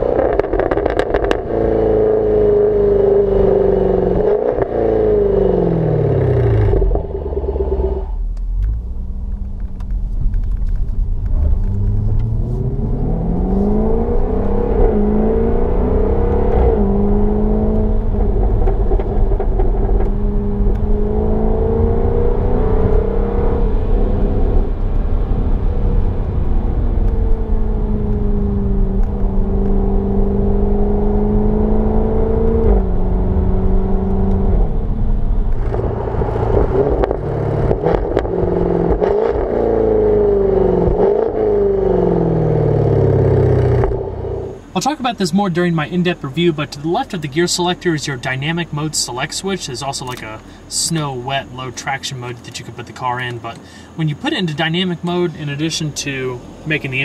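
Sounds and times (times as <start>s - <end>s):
car engine and exhaust: 0.0s - 57.0s.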